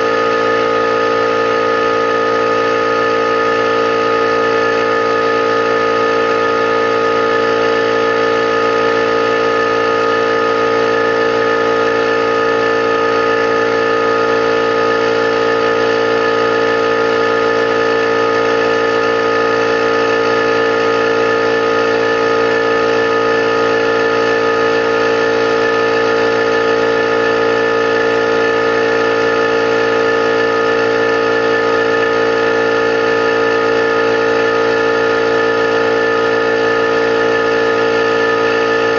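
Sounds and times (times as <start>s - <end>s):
air compressor drone: 0.0s - 38.9s.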